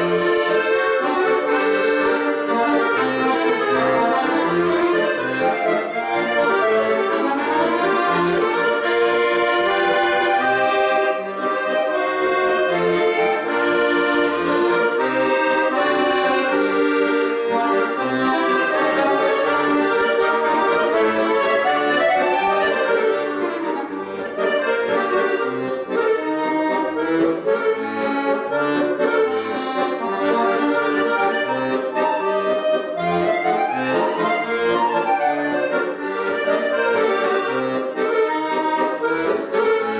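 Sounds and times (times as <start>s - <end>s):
accordion playing fast runs: 0.0s - 39.9s.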